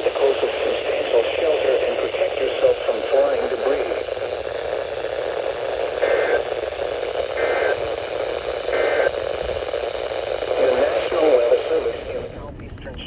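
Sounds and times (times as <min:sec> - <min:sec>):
radio static hiss: 0:00.0 - 0:13.0
two-tone digital data bursts: 0:01.4 - 0:12.0.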